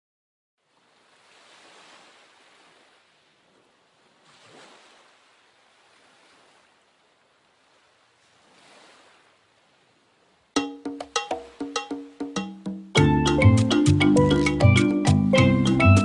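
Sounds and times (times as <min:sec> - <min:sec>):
faint ocean waves: 0:00.6 - 0:16.0.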